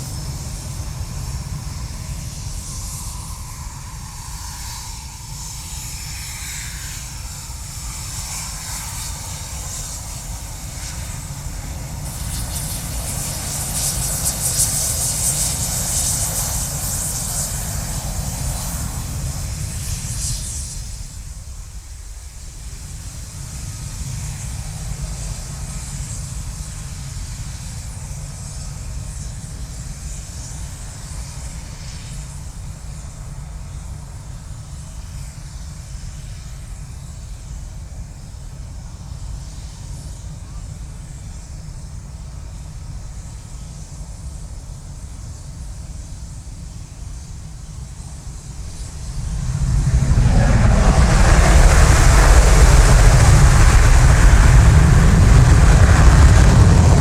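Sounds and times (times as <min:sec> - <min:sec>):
jet engine roar: 0:00.0 - 0:42.0, 0:46.5 - 0:57.0.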